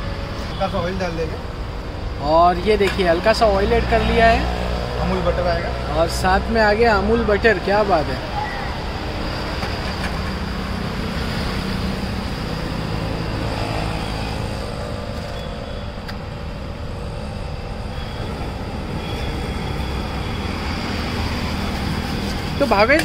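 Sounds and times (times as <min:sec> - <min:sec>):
traffic rumble and hiss: 0:00.0 - 0:23.0.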